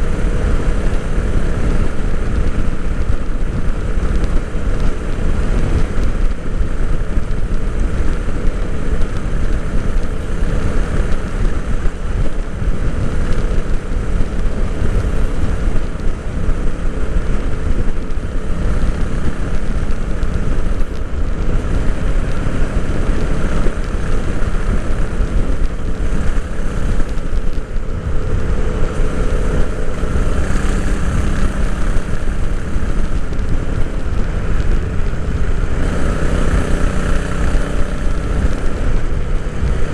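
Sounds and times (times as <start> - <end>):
motorcycle engine and exhaust: 0.0 - 39.9
road and wind noise: 0.0 - 39.9.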